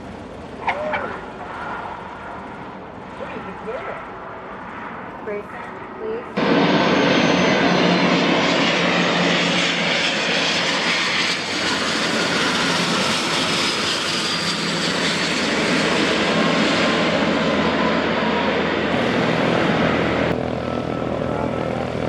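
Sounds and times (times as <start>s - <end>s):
airplane engines running: 0.0s - 22.0s.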